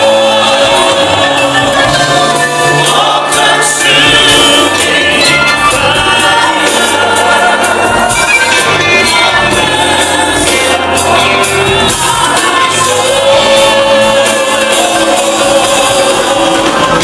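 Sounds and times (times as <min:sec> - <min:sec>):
crowd singing along: 0:00.0 - 0:17.0
live band playing: 0:00.0 - 0:17.0
man and woman singing: 0:00.0 - 0:17.0.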